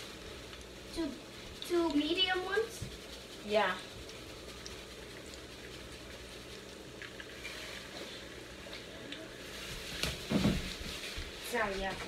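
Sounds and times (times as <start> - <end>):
sausages sizzling in a pan: 0.0 - 11.6.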